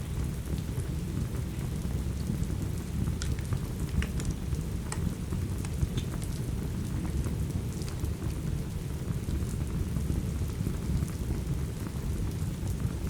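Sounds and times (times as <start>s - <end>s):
steady rain: 0.0s - 13.0s
wood fire crackling: 0.0s - 13.0s.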